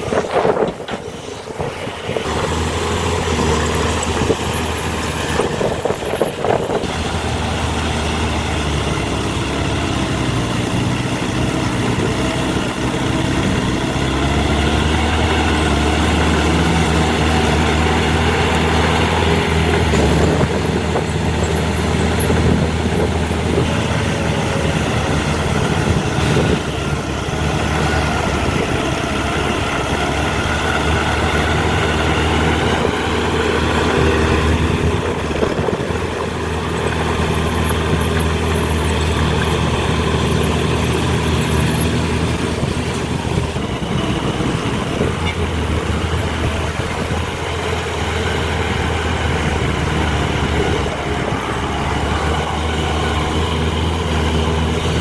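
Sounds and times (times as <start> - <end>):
heavy machinery diesel engines: 0.0 - 55.0.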